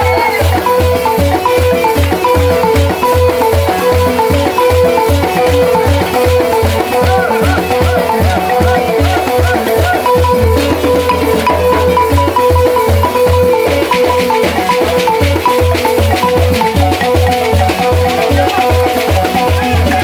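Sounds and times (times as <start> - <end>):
xylophone playing fast pattern: 0.0 - 20.0.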